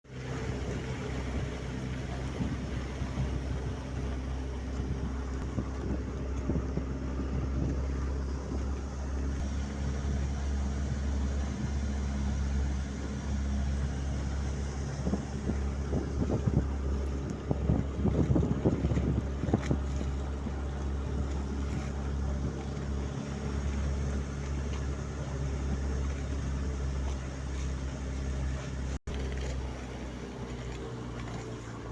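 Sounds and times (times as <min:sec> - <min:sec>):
engine running: 0:00.0 - 0:31.9
wind noise on microphone: 0:00.3 - 0:27.9.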